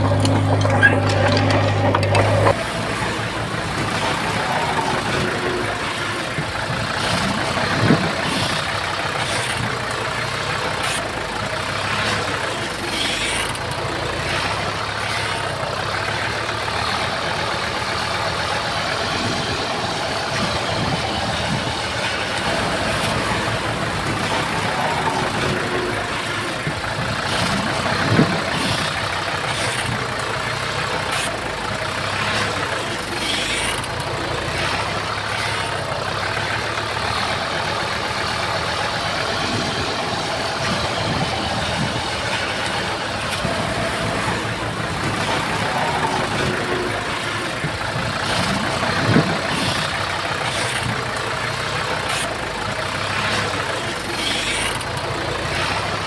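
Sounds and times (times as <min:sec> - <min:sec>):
heavy earthmoving machinery running: 0:00.0 - 0:56.0.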